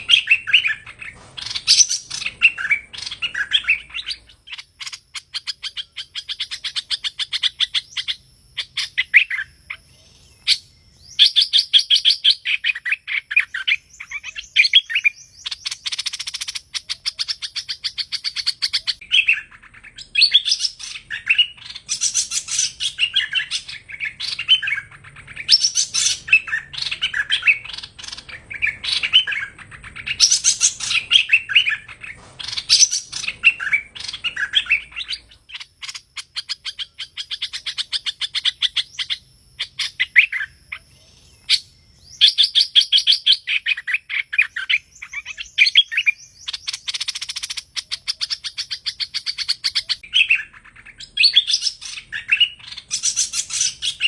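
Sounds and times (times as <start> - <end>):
rapid bird trills: 0.0 - 54.0
songbird chirping: 0.0 - 54.0.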